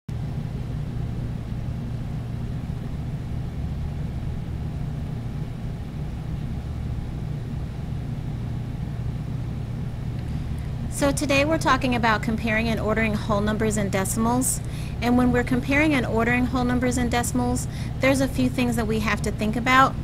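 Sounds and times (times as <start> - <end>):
low rumbling hum: 0.1 - 20.0.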